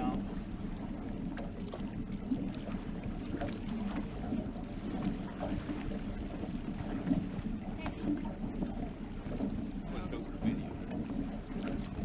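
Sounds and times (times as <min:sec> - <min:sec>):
outboard motor humming: 0:00.0 - 0:12.0
water splashing: 0:00.0 - 0:12.0.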